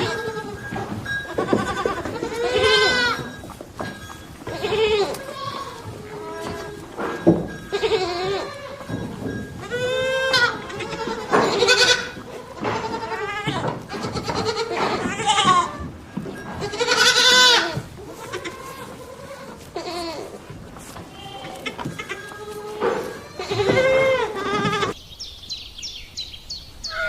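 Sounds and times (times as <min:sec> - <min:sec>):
goats bleating: 0:00.0 - 0:25.0.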